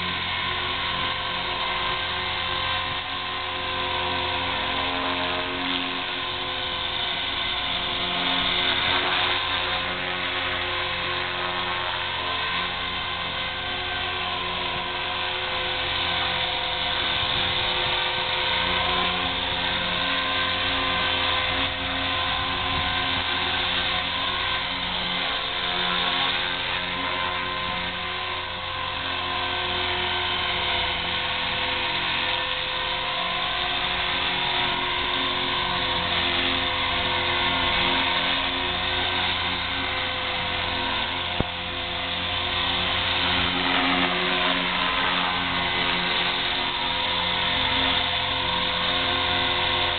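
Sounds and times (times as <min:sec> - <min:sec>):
rc helicopter motor whine: 0:00.0 - 0:49.9
rotor whirring: 0:00.0 - 0:49.9.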